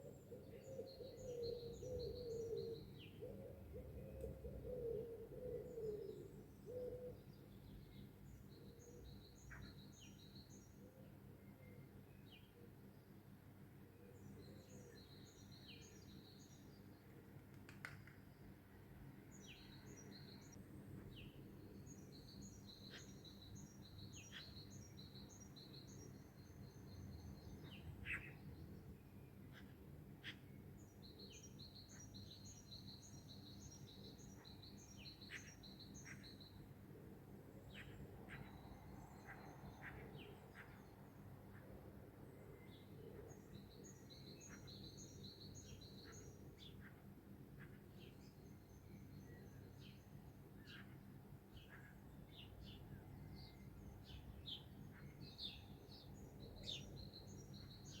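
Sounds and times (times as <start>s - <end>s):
faint songbirds singing: 0.0s - 58.0s.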